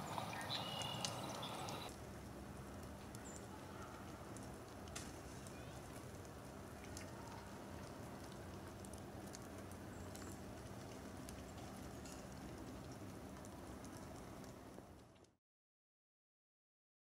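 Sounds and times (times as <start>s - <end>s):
low outdoor hiss: 0.0s - 15.2s
light scattered ticks: 0.0s - 15.4s.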